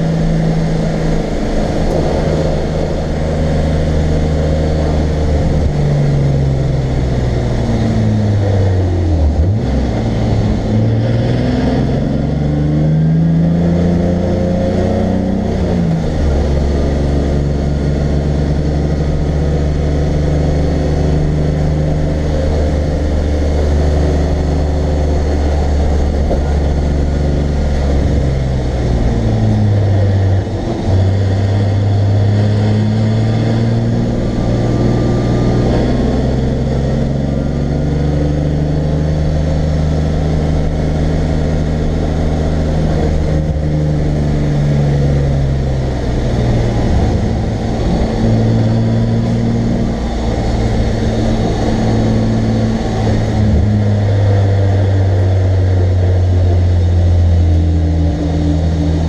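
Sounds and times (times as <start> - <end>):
race car engine running: 0.0 - 59.0
road and wind noise: 0.0 - 59.0.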